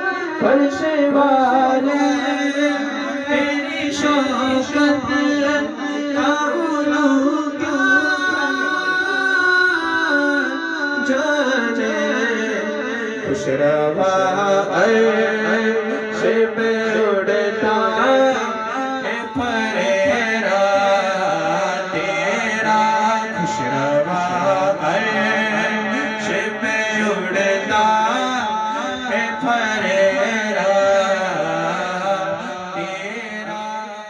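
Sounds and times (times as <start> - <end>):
man singing: 0.0 - 34.0.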